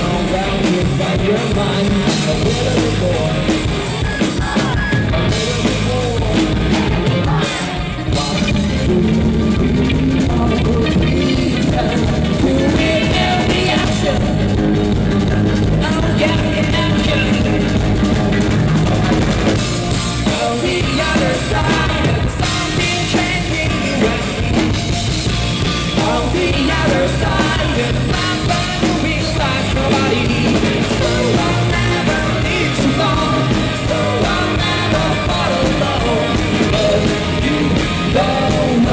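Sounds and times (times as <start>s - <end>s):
drum kit beat: 0.0s - 38.9s
rock band playing live: 0.0s - 38.9s.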